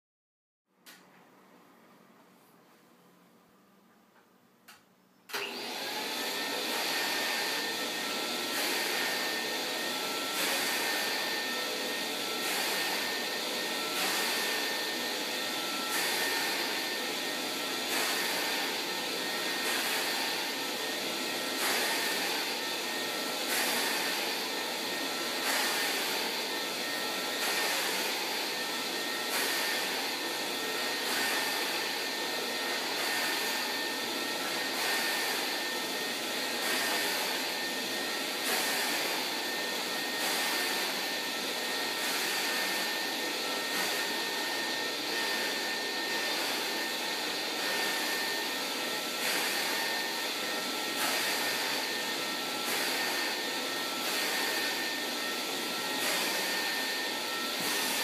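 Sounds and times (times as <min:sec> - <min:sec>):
vacuum cleaner running: 0:05.3 - 0:58.0.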